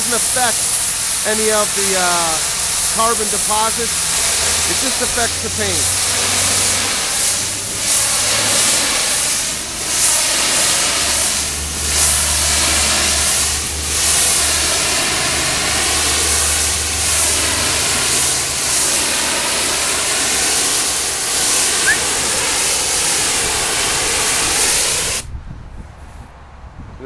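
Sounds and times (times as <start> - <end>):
machine engine humming: 0.0 - 25.1
pressure washer spray hissing: 0.0 - 25.3.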